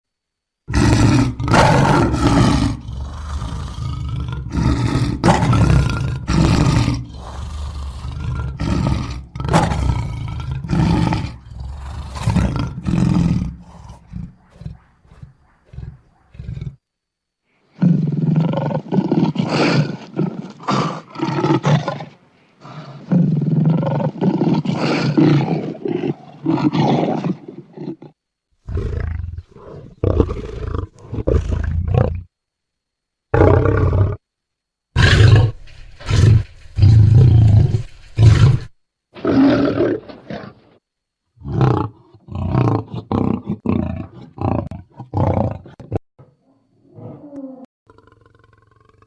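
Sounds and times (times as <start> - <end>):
lion roaring and grunting: 0.7 - 16.8, 17.7 - 32.3, 35.0 - 40.8, 41.4 - 46.0, 46.8 - 49.0.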